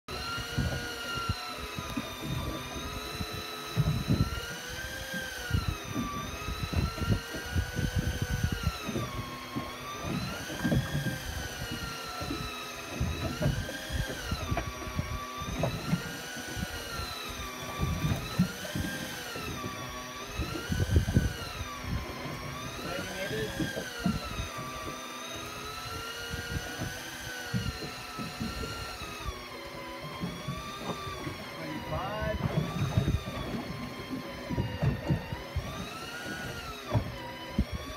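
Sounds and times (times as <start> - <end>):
electric fishing reel motor whining: 0.1 - 37.9.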